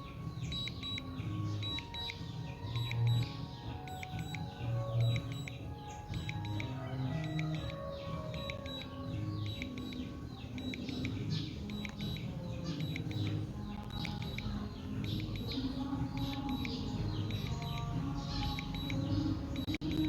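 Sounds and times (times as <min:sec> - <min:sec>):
background music with held notes: 0:00.0 - 0:20.0.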